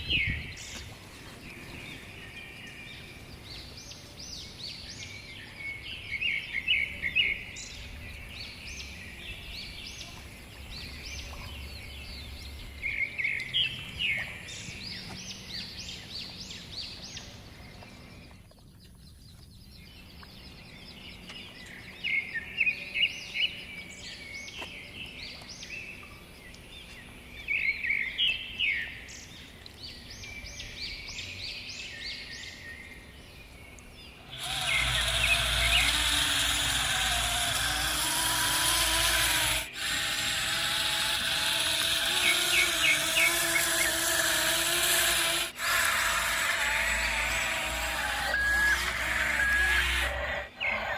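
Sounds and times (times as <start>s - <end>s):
songbird chirping: 0.0s - 50.9s.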